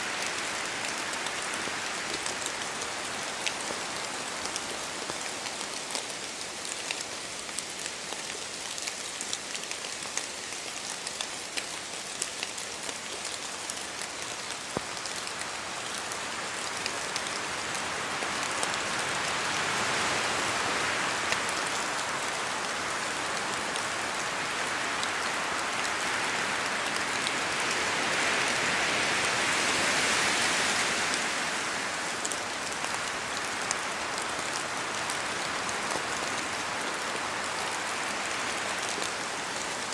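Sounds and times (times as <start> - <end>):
rain dripping from trees: 0.0 - 39.9
wind through trees: 0.0 - 39.9.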